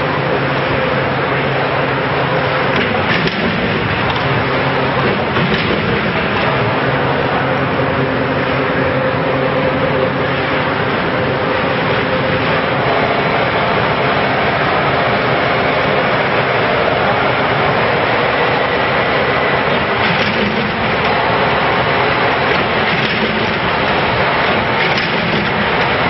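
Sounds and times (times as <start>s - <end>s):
folder gluer machine running: 0.0s - 26.0s.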